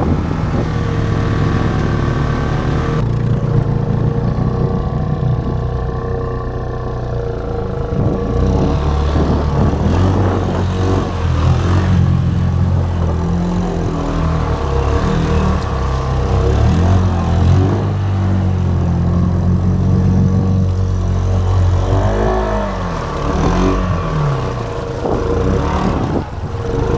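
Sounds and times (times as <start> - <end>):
atv engine revving: 0.0 - 26.9.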